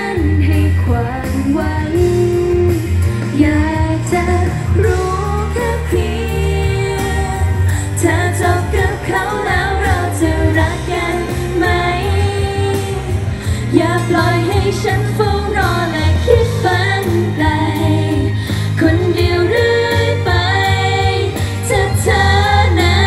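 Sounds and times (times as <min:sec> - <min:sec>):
pop backing track: 0:00.0 - 0:23.0
women singing into microphones: 0:00.0 - 0:23.0.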